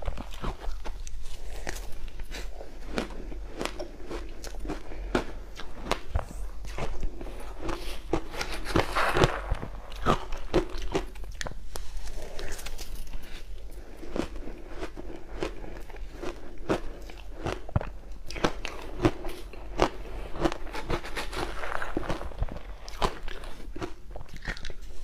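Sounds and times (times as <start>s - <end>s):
crushed ice being chewed: 0.0s - 25.0s.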